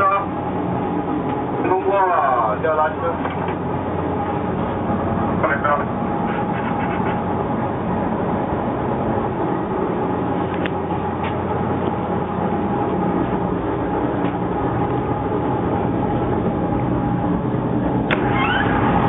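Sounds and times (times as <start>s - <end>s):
constant whine: 0.0s - 19.0s
locomotive engine hum: 0.0s - 19.0s.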